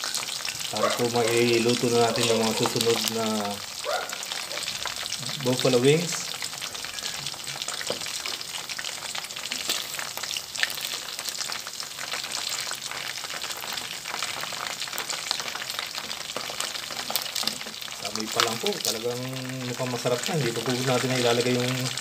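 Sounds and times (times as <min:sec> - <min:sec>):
chicken frying in hot oil: 0:00.0 - 0:22.0.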